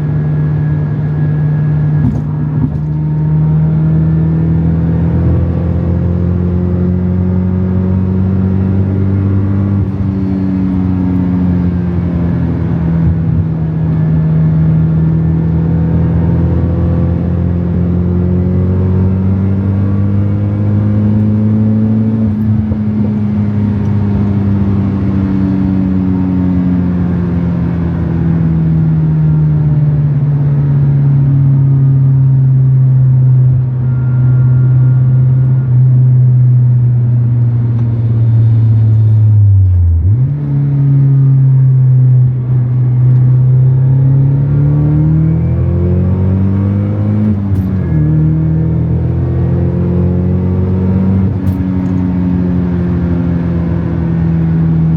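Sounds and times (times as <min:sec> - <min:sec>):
car engine through exhaust: 0:00.0 - 0:54.9.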